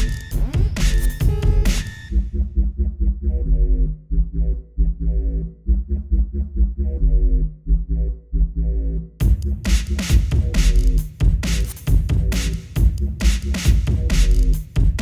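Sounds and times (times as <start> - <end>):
electronic music with pulsing bass: 0.0 - 15.0.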